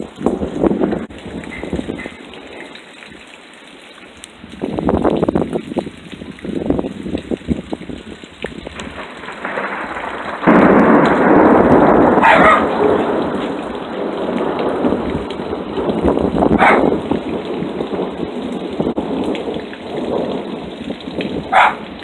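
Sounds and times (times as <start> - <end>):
thunderclap rumbling: 0.0 - 2.8, 4.5 - 22.0
steady rain falling: 0.0 - 22.0.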